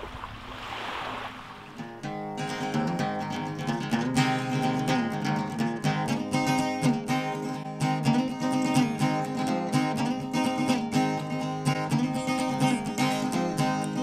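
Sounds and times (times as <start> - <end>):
strummed acoustic guitar chords: 1.8 - 14.0.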